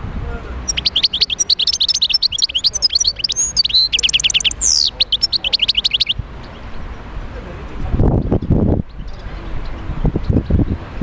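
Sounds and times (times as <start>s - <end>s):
bird twittering song: 0.6s - 7.1s, 8.1s - 10.8s.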